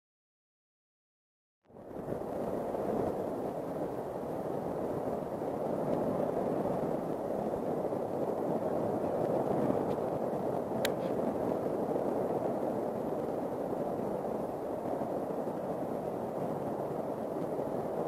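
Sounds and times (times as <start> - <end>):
gas fireball roaring: 1.7 - 18.0.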